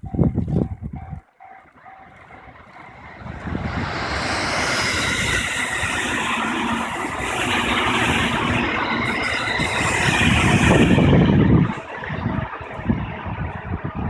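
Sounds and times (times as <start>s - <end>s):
electric train passing: 1.4s - 14.0s.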